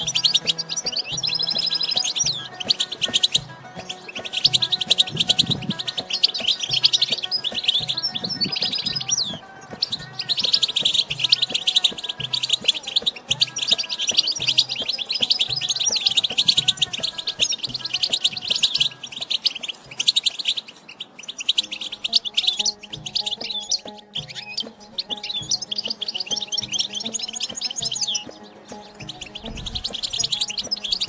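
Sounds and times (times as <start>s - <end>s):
goldfinch twittering song: 0.0s - 31.0s.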